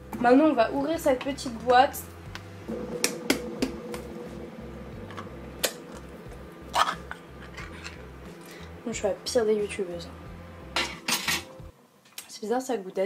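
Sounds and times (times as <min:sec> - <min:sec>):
faint steady hum: 0:00.0 - 0:12.1.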